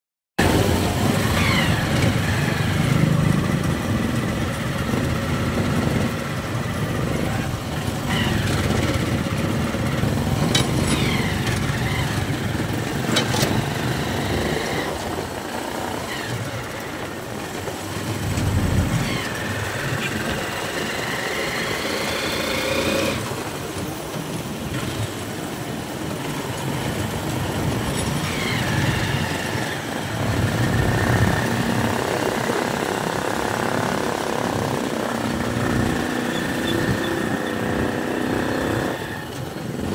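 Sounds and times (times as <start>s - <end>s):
small motorcycle engine whine: 0.4s - 23.4s, 28.2s - 39.9s
road noise: 0.4s - 39.9s.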